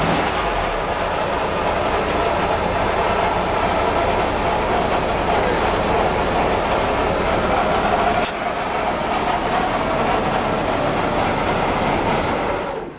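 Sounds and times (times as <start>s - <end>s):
car engine running: 0.0s - 12.9s
transmission whine: 0.0s - 12.9s.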